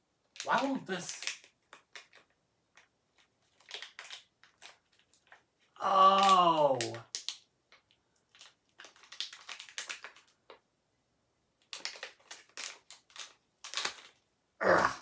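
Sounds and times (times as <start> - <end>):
wrapper crinkling: 0.4 - 10.6, 11.6 - 14.2.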